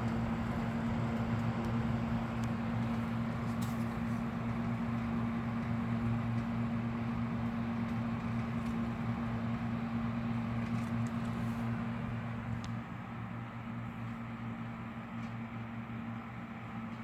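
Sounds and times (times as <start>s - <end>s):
air rushing from fan blades: 0.0s - 14.3s
exhaust fan motor hum: 0.0s - 17.0s.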